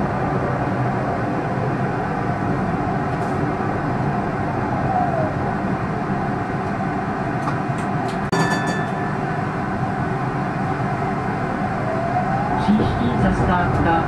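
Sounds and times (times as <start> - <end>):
tram rolling and motor noise: 0.0 - 14.0.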